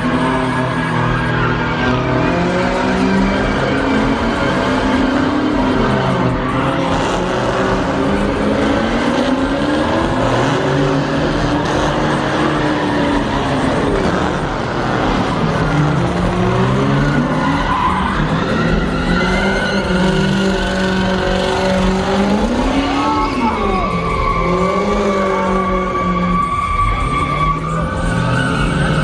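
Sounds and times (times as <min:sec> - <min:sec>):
car engine revving: 0:00.0 - 0:29.0
tires squealing: 0:00.0 - 0:29.0.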